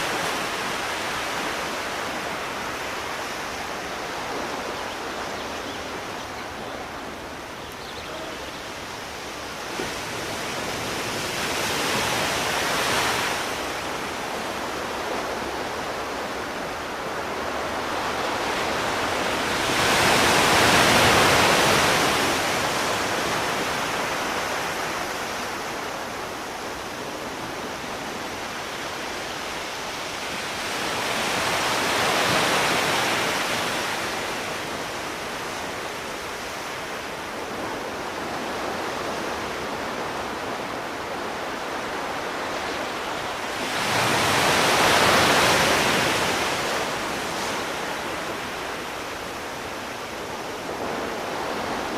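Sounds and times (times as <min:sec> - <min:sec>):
sea waves washing onto shore: 0:00.0 - 0:51.9.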